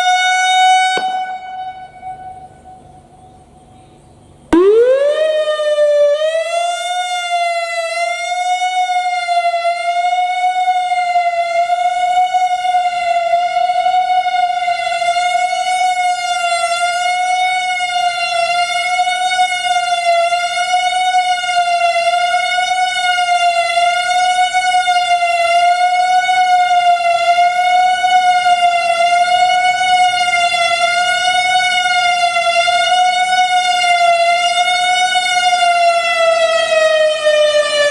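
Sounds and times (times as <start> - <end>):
storm siren steady tone: 0.0 - 37.9.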